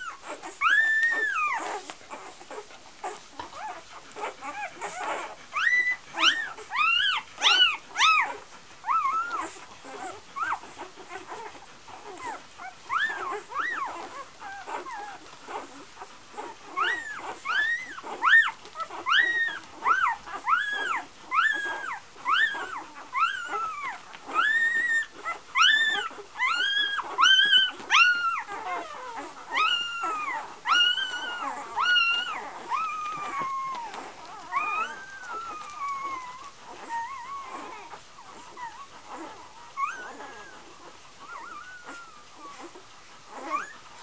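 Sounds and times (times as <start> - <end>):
puppies squealing: 0.0 - 43.9
puppy whining: 0.0 - 44.0.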